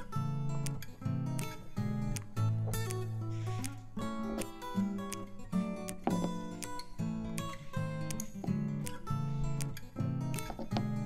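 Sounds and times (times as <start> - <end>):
acoustic guitar tune: 0.0 - 11.0.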